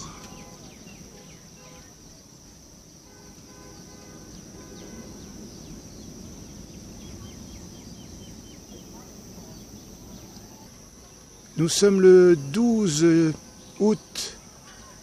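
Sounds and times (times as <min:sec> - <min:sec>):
small birds chirping: 0:00.0 - 0:02.6, 0:03.7 - 0:15.0
insects trilling: 0:00.0 - 0:15.0.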